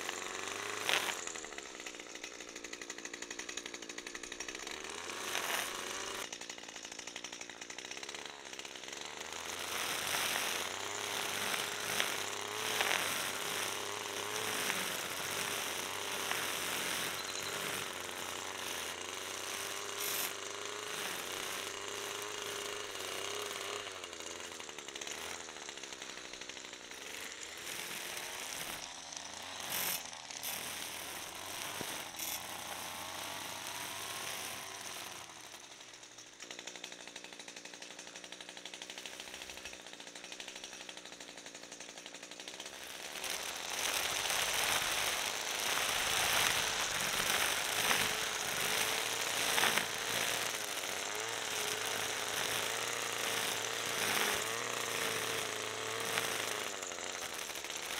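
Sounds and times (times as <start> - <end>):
string trimmer cutting grass: 0.0 - 57.9.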